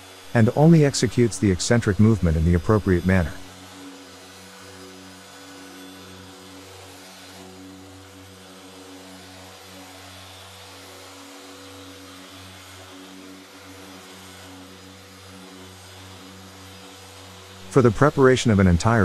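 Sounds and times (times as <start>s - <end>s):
polishing machine motor hum: 0.0s - 19.0s.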